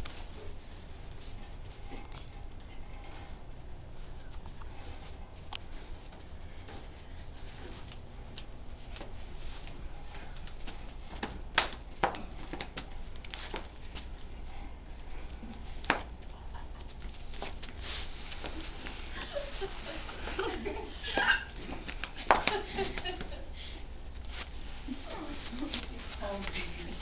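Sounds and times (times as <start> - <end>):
shuffling of people moving: 0.0 - 27.0
steady low hum: 0.0 - 27.0.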